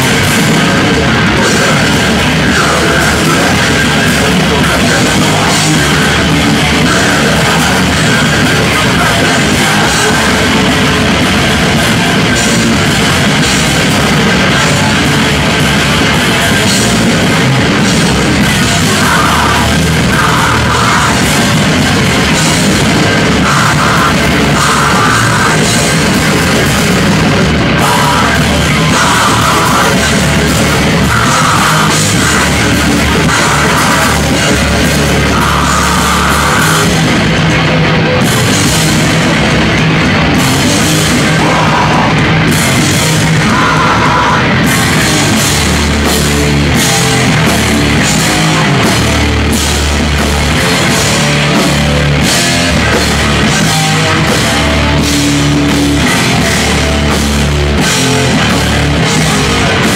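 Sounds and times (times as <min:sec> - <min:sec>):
distorted electric guitar: 0:00.0 - 0:59.9
pounding drums: 0:00.0 - 0:59.9
punk band playing: 0:00.0 - 0:59.9
shouted vocals: 0:00.0 - 0:59.9.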